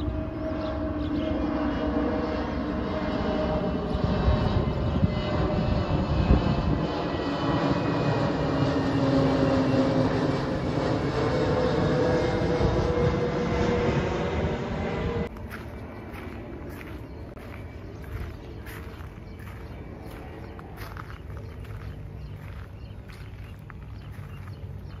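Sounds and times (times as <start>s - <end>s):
jet airliner passing overhead: 0.0s - 25.0s.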